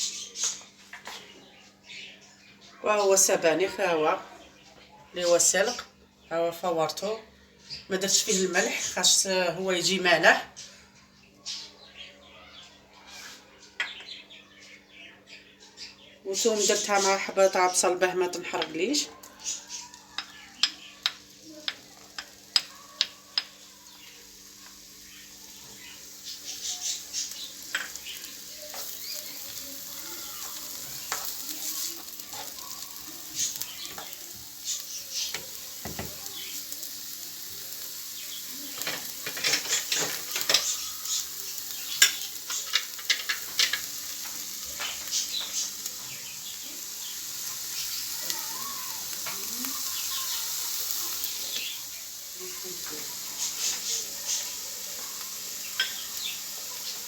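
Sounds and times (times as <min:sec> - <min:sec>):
onion and garlic sizzling in oil: 0:00.0 - 0:57.0.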